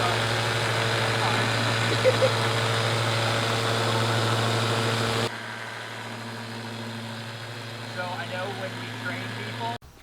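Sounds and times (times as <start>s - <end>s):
electric polisher running: 0.0s - 9.8s.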